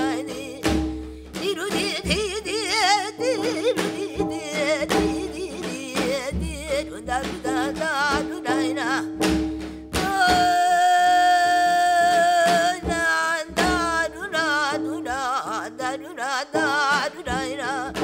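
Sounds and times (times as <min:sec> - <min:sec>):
folk-style singing with vibrato: 0:00.0 - 0:18.0
instrumental accompaniment: 0:00.0 - 0:18.0.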